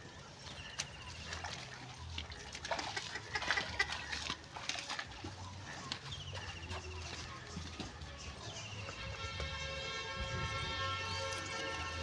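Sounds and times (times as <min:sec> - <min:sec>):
animal steps squelching in mud: 0:00.0 - 0:12.0.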